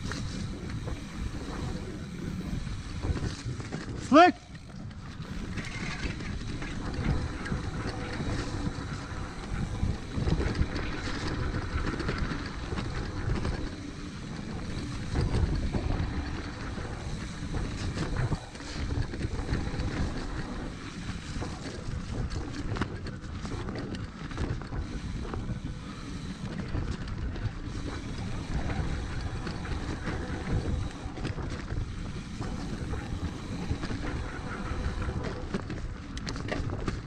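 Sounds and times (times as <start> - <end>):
bike clattering over bumps: 0.0 - 37.0
tyres on dirt: 0.0 - 37.0
wind rushing over microphone: 0.0 - 37.0.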